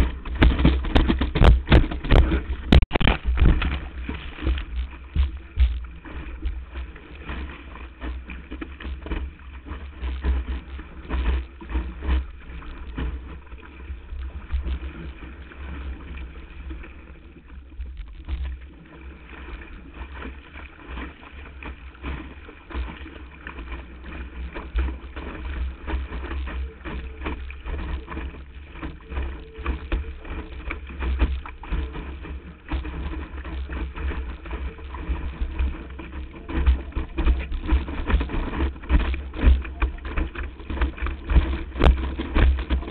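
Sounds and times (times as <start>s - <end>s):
water splashing against board: 0.0s - 42.9s.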